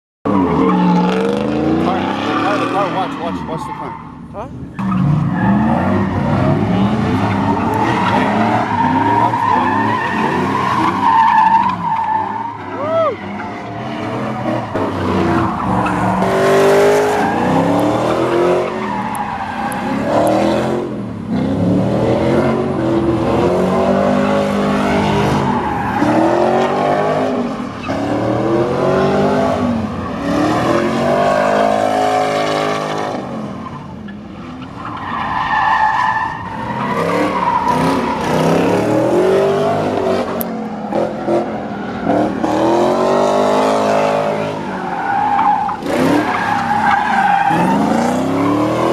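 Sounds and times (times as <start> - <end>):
truck engine revving: 0.3 - 3.7, 4.5 - 12.4, 13.3 - 33.4, 36.2 - 48.9.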